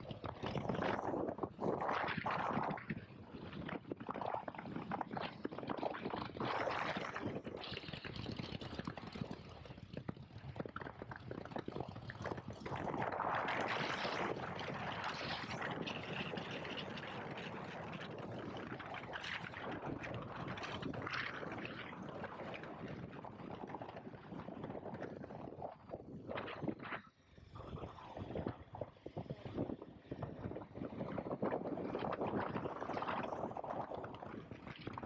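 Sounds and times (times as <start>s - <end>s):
wind buffeting microphone: 0.0s - 9.9s, 10.5s - 35.0s.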